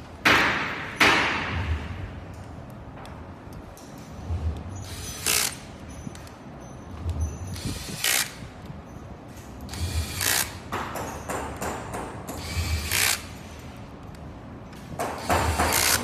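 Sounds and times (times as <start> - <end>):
mechanism whirring: 0.0 - 16.0.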